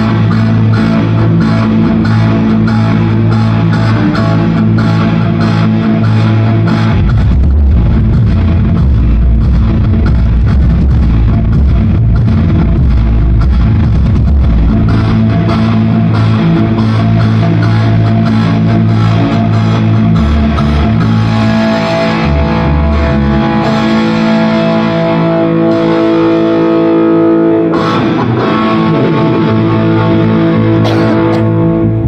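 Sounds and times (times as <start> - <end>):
rock music with distorted guitar: 0.0 - 32.0.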